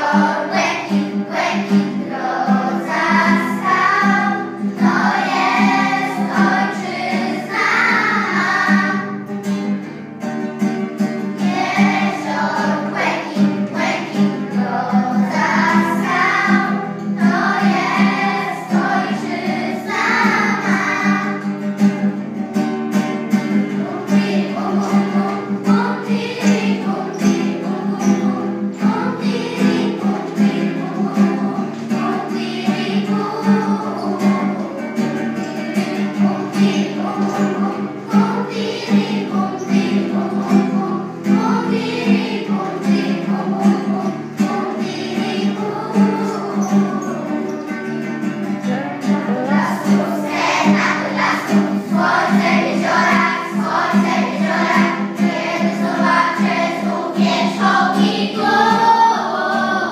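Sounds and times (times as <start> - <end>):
children singing in unison: 0.0 - 9.8, 10.6 - 59.9.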